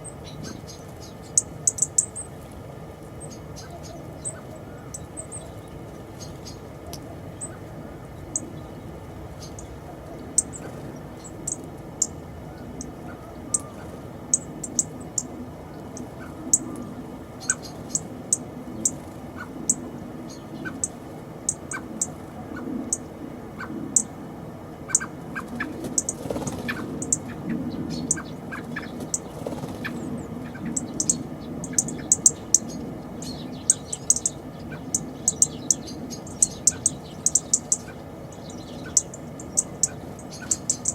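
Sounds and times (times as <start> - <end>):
low steady background rumble: 0.0 - 40.9
small birds chirping: 0.0 - 40.9.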